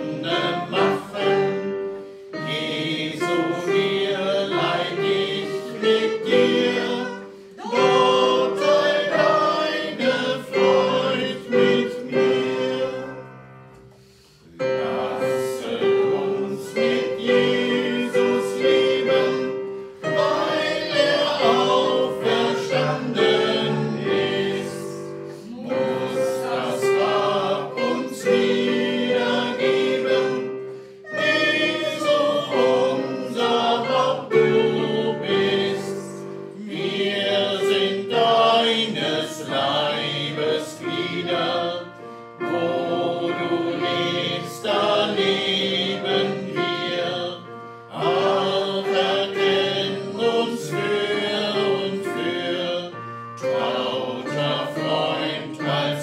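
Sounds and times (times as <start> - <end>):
electronic keyboard playing hymn: 0.0 - 56.0
voices singing: 0.0 - 56.0.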